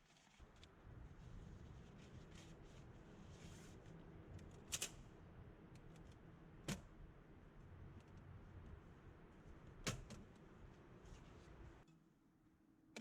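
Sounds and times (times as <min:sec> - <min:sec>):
faint steady background noise: 0:00.1 - 0:13.0.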